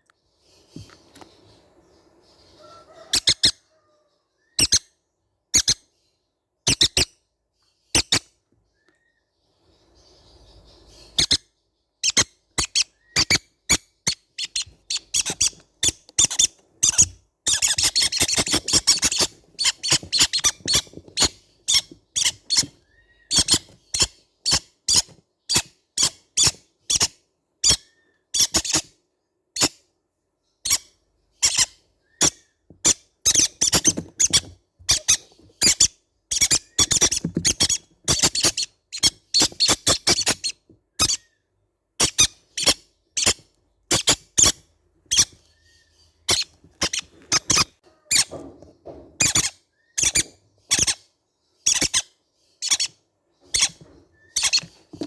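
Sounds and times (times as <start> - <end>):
parrots squeaking and chattering: 2.6 - 3.8, 4.6 - 4.9, 5.5 - 5.9, 6.6 - 7.2, 7.9 - 8.3, 10.2 - 29.0, 29.6 - 29.8, 30.6 - 41.4, 42.0 - 55.0.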